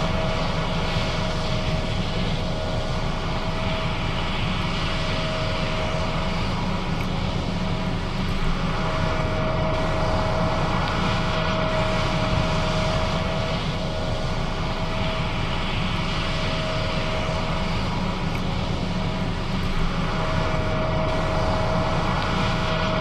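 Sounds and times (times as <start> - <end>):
thin steady whine: 0.0 - 23.0.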